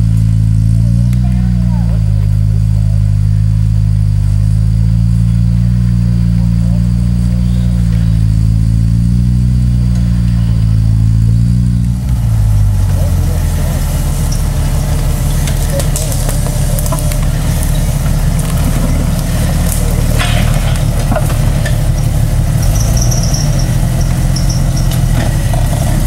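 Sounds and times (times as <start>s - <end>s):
car engine running low: 0.0s - 26.0s.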